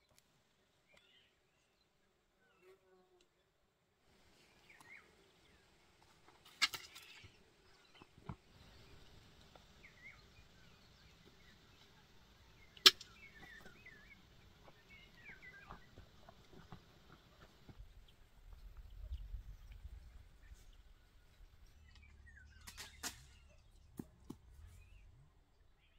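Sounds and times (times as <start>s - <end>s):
birds chirping: 4.2s - 25.9s.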